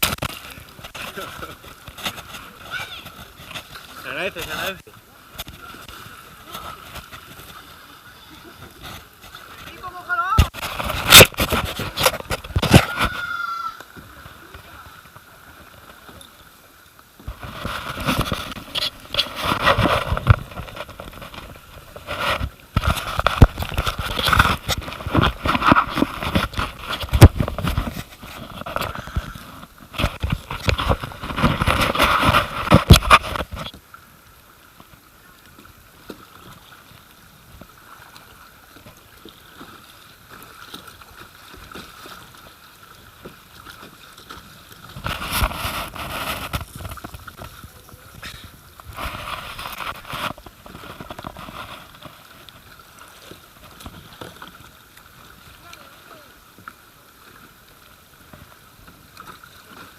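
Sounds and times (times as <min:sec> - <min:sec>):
river water flowing: 0:00.0 - 0:59.9
water splashing around kayak: 0:00.0 - 0:59.9.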